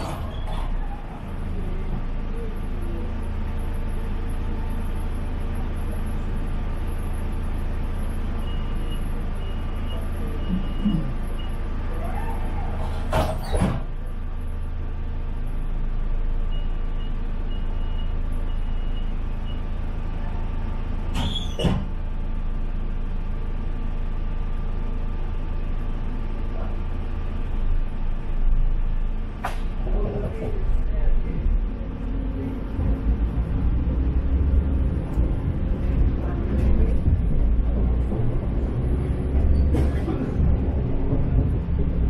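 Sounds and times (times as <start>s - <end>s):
train interior rumble: 0.0s - 42.0s.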